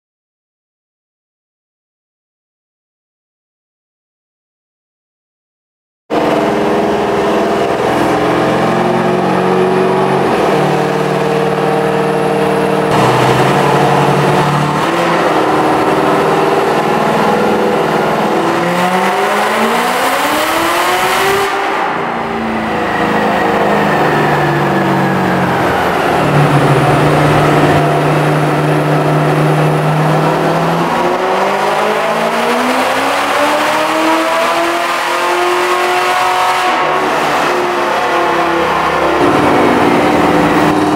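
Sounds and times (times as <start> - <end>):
car engine revving on dynamometer: 6.1 - 40.9.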